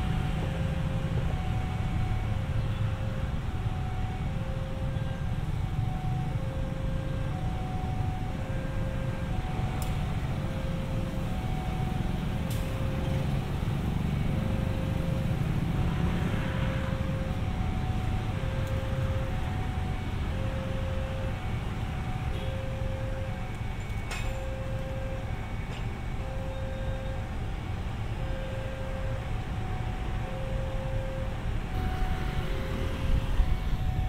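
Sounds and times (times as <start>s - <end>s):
two-tone electronic alarm: 0.0s - 13.5s, 14.1s - 34.0s.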